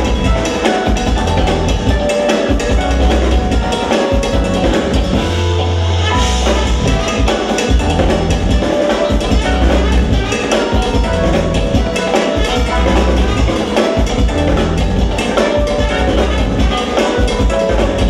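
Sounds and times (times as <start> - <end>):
bass guitar: 0.0 - 18.0
drum kit: 0.0 - 18.0
electric guitar: 0.0 - 18.0
keyboards: 0.0 - 18.0
trumpet: 0.0 - 18.0.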